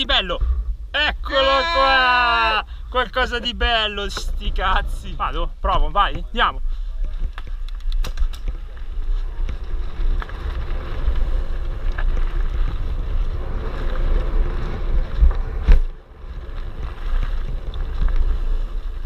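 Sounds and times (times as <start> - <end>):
bike tyres on gravel: 0.0 - 19.0
wind buffeting microphone: 0.0 - 19.0
bike clicking and rattling: 3.3 - 19.0.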